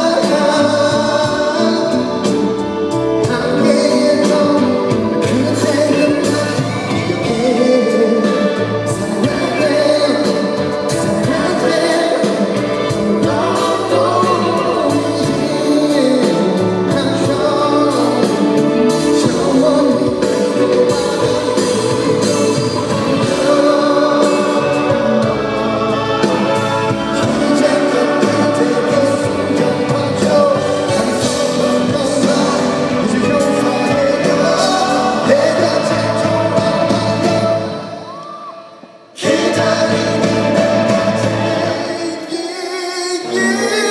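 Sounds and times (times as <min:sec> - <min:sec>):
man singing pop ballad: 0:00.0 - 0:38.1, 0:39.2 - 0:43.9
band playing live: 0:00.0 - 0:43.9.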